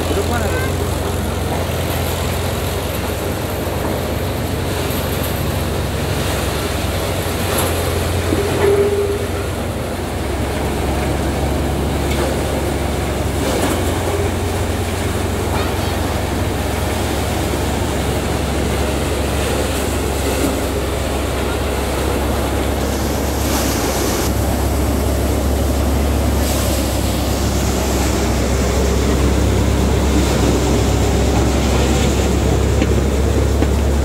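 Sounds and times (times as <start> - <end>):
thresher mechanical drone: 0.0 - 34.0.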